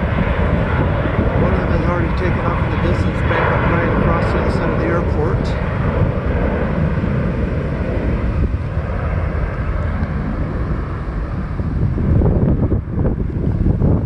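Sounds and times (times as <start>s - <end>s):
jet engine rumble: 0.0s - 14.0s
wind buffeting microphone: 0.0s - 14.0s.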